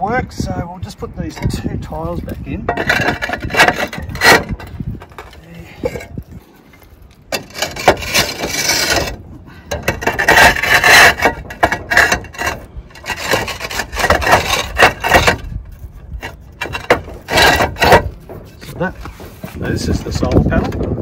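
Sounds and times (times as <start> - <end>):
roof tiles scraping: 0.9 - 21.0.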